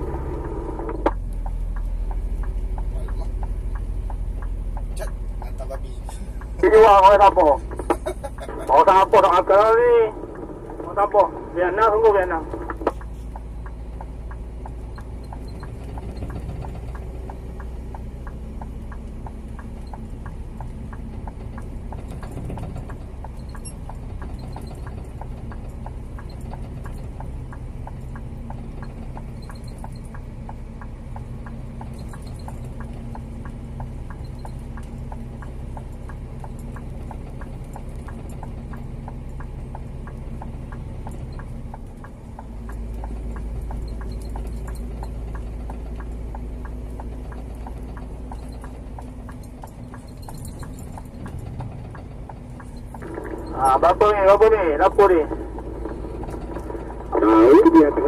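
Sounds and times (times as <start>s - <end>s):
diesel engine drone: 0.0s - 58.0s
fast even ticking: 1.4s - 58.0s.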